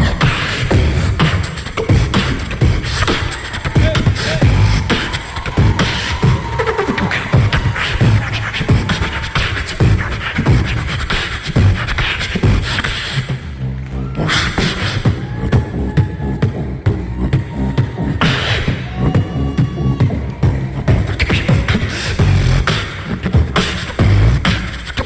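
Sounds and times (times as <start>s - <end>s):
buzzing vocal bass sound: 0.0s - 9.2s, 11.6s - 25.0s
man beatboxing: 0.0s - 25.0s.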